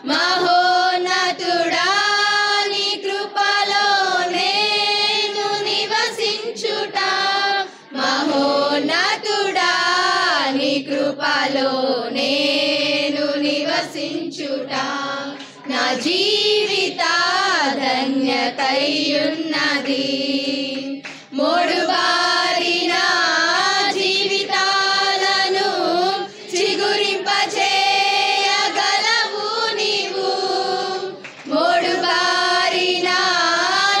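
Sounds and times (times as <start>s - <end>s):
women's choir singing: 0.0s - 34.0s.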